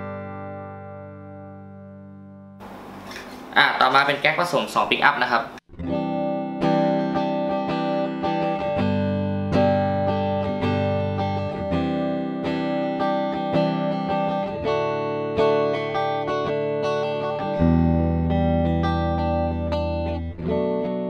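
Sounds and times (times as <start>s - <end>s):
clean electric guitar chords: 0.0s - 2.6s, 5.7s - 21.0s.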